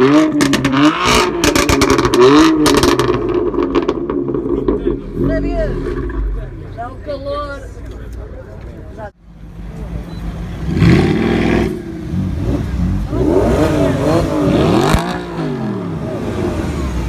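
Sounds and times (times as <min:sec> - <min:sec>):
car engine revving: 0:00.0 - 0:07.2, 0:10.3 - 0:17.0.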